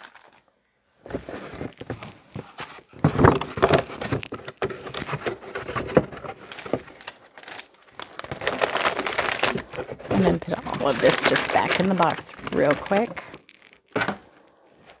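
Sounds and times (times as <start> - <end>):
cardboard box being handled: 1.0 - 14.3.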